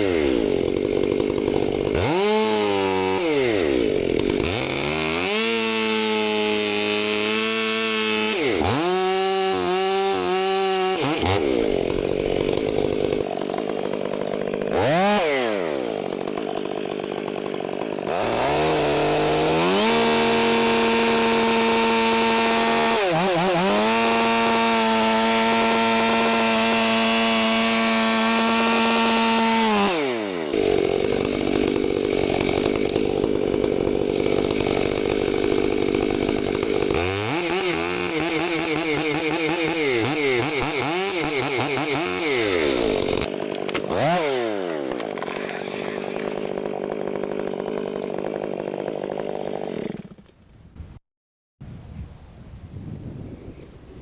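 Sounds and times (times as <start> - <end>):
chainsaw revving: 0.0 - 50.3
chainsaw cutting wood: 0.0 - 50.4.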